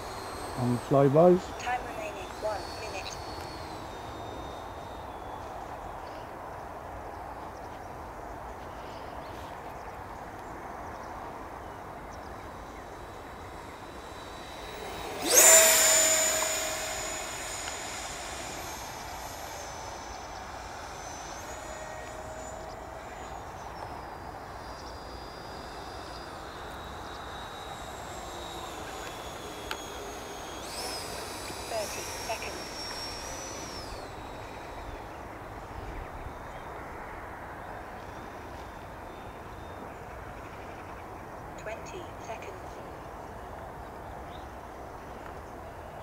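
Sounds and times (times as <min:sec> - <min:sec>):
model jet fan whining flyby: 0:00.0 - 0:46.0.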